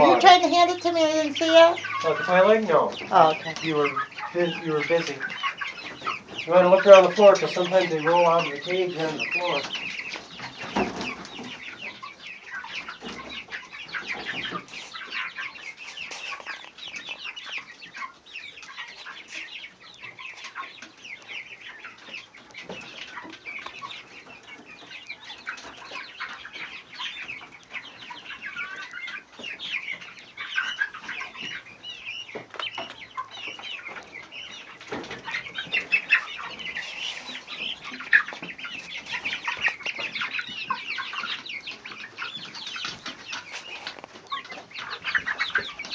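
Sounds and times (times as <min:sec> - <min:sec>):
chickens clucking: 0:00.0 - 0:45.9
chicks peeping: 0:00.0 - 0:45.9.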